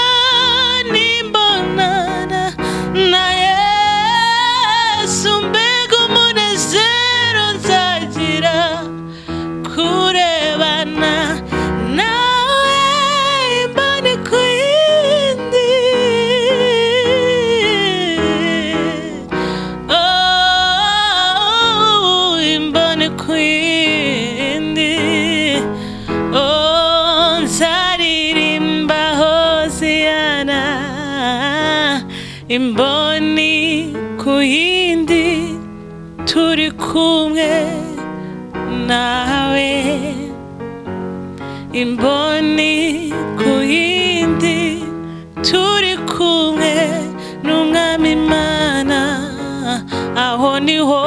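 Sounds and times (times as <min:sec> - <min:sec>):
woman singing with vibrato: 0:00.0 - 0:40.4, 0:41.6 - 0:51.0
electronic keyboard chords: 0:00.0 - 0:51.0.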